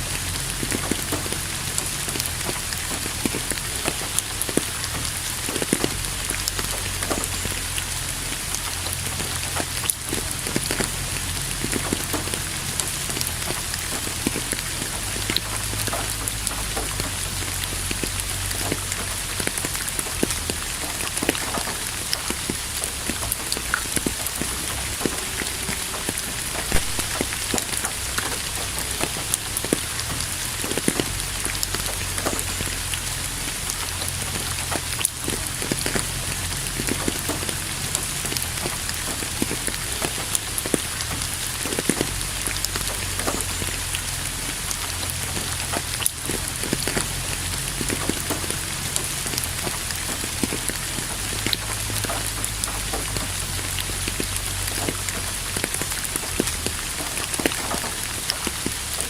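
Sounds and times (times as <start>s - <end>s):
low rumble: 0.0s - 54.2s
steady rain falling: 0.0s - 59.0s.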